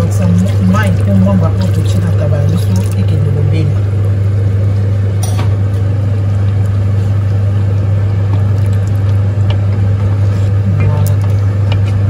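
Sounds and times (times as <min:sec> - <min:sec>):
steady low hum: 0:00.0 - 0:12.0
stew simmering: 0:00.0 - 0:12.0.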